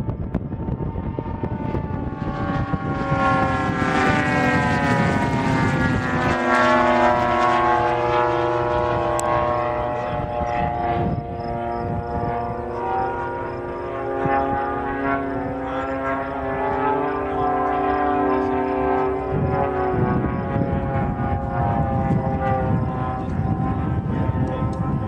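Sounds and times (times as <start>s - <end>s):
model plane propeller drone: 0.0s - 25.0s.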